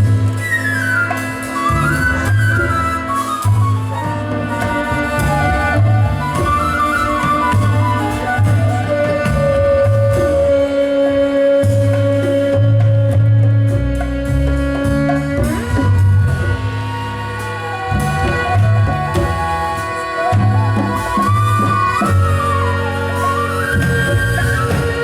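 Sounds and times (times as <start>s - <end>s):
drums: 0.0s - 25.0s
lead melody instrument: 0.0s - 25.0s
pulsing bass line: 1.6s - 25.0s.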